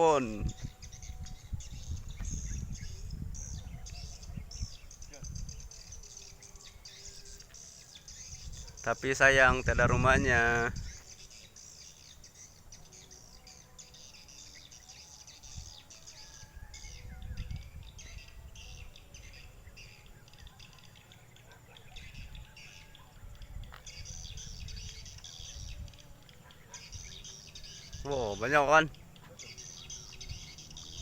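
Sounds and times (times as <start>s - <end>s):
swiftlets chirping and twittering: 0.0s - 31.0s.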